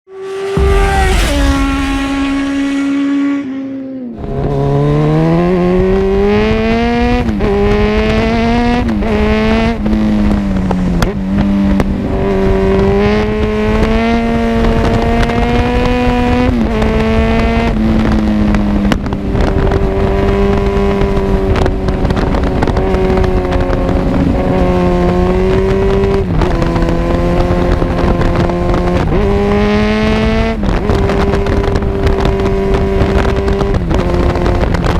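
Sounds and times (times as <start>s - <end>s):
motorcycle accelerating through gears: 0.1s - 34.9s.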